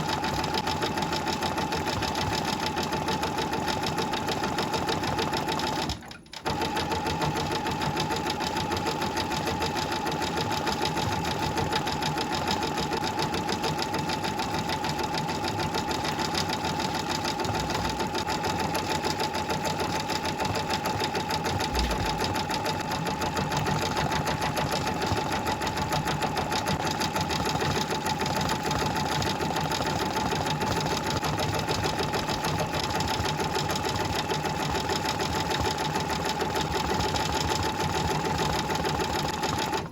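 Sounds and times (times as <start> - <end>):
sewing machine stitching: 0.0 - 39.9.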